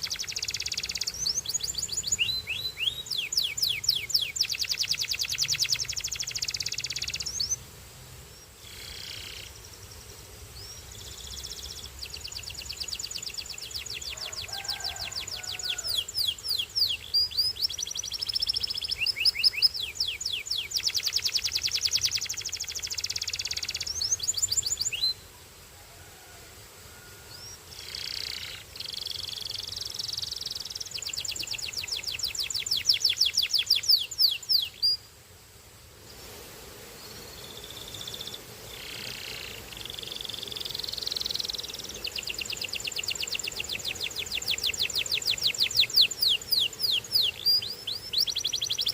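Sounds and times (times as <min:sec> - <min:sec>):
canary singing trills: 0:00.0 - 0:07.6, 0:10.6 - 0:25.2, 0:27.3 - 0:35.0, 0:37.4 - 0:48.9.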